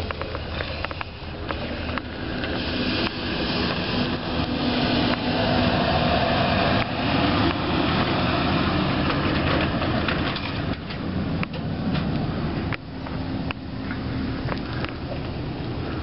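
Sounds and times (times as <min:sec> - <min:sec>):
electric trolleybus passing: 0:00.0 - 0:16.0
rolling tyres: 0:00.0 - 0:16.0.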